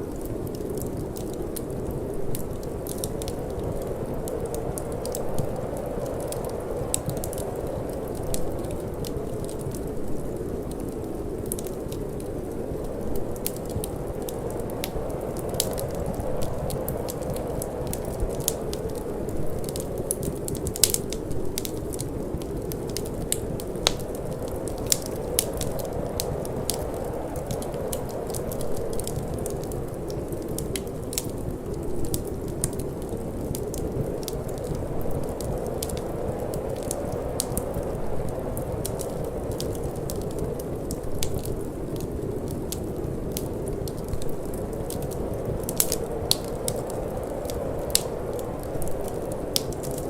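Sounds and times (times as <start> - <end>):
low rush of wind: 0.0 - 50.0
wood fire crackling and popping: 0.0 - 50.0.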